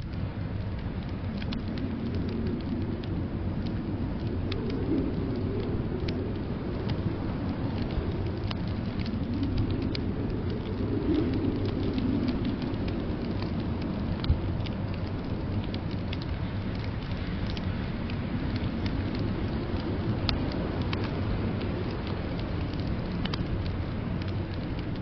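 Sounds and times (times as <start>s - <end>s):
low rumble of wind: 0.0s - 25.0s
wood fire crackling and popping: 0.0s - 25.0s.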